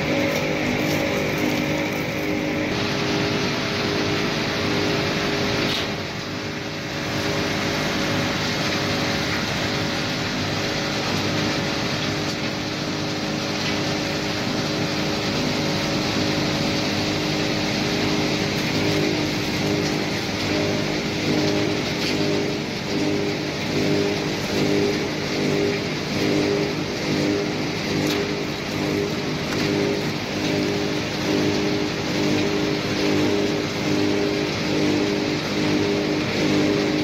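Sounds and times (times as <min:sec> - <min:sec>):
motor and blower tones: 0:00.0 - 0:37.0
wire shredding machine humming: 0:00.0 - 0:37.0.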